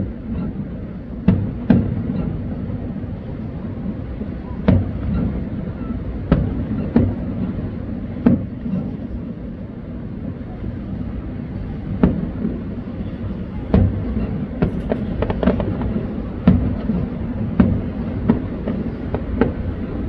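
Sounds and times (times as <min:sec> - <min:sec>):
distant fireworks booming: 0:00.0 - 0:20.0
steady low rumble: 0:00.0 - 0:20.0.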